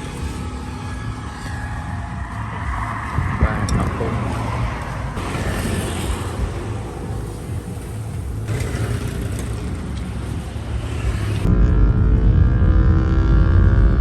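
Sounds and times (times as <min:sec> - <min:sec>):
low engine hum: 0:00.0 - 0:14.0
traffic: 0:00.0 - 0:14.0.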